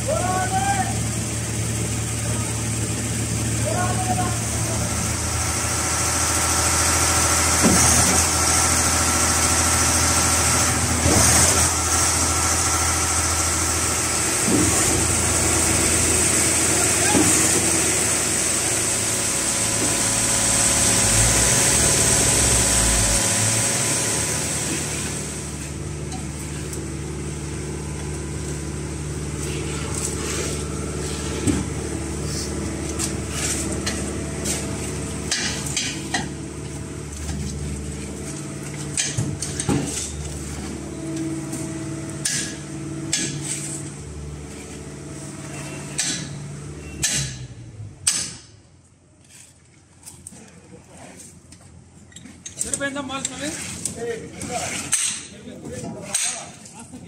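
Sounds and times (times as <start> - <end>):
diesel engines running: 0.0 - 49.0.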